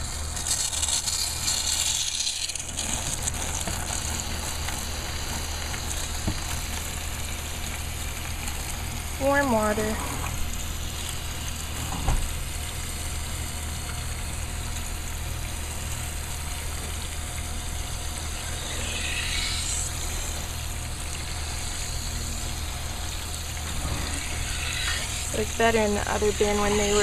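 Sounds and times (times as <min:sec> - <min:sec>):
low steady hum: 0:00.0 - 0:27.0
water pouring onto pellets: 0:00.0 - 0:27.0.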